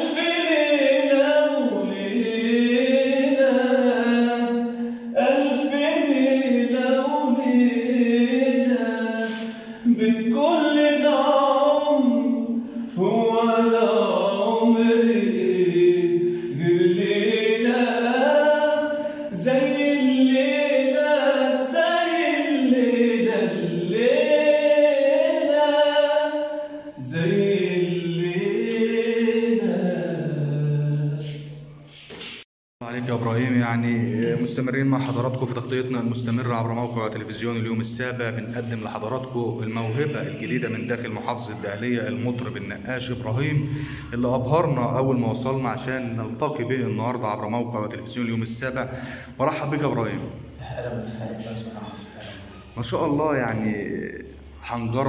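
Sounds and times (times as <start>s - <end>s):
man singing unaccompanied: 0.0s - 31.6s, 32.8s - 50.3s.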